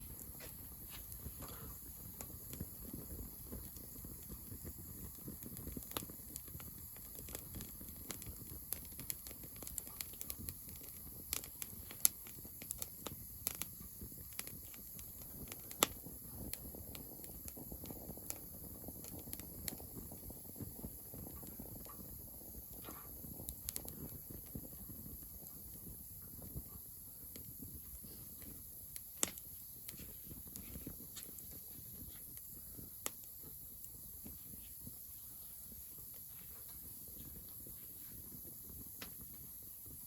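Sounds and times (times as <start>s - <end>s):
bonfire pops and snaps: 0.0s - 40.0s
low steady fire rumble: 0.0s - 40.0s.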